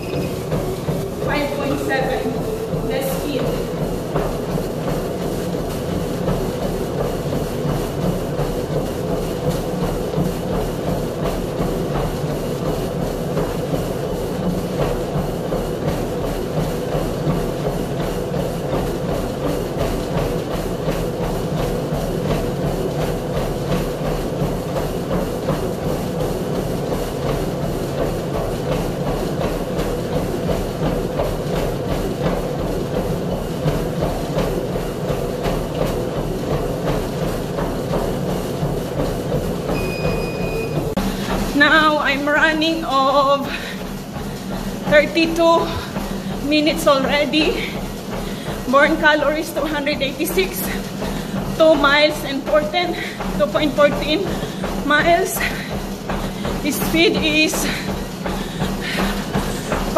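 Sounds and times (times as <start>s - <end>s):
footfalls on treadmill belt: 0.0s - 59.9s
treadmill motor and belt hum: 0.0s - 59.9s.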